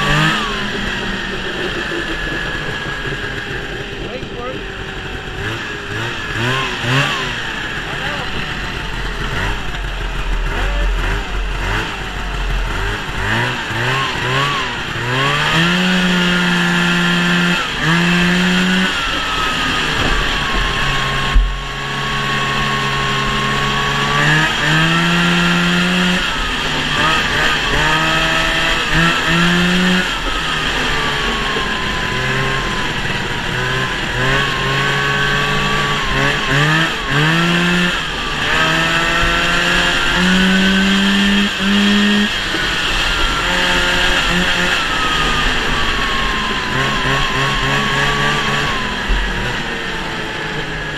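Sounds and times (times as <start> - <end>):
snowmobile engine revving: 0.0 - 50.9
wind and track noise: 0.0 - 50.9.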